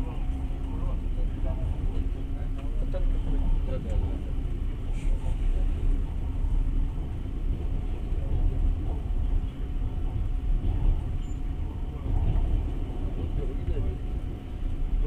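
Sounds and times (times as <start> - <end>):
train rumble heard from inside: 0.0 - 15.0.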